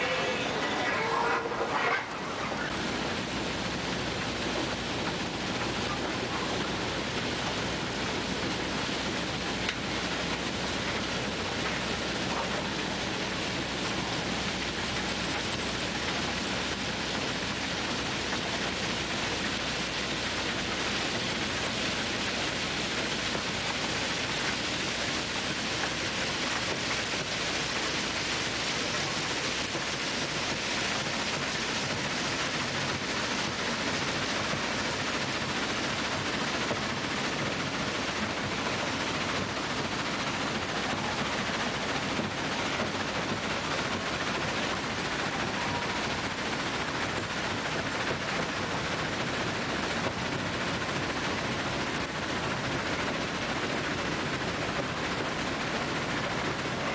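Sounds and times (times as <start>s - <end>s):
ballast cleaning machine churning stones: 0.0s - 56.9s.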